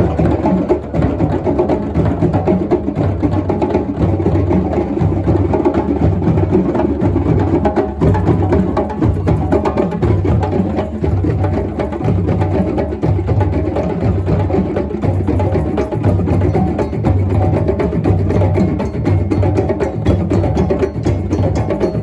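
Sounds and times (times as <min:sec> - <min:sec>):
percussive music: 0:00.0 - 0:22.0.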